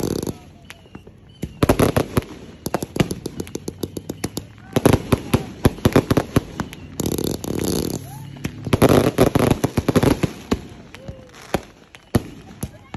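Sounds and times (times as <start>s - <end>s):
firework cake shots and bangs: 0.0s - 12.9s.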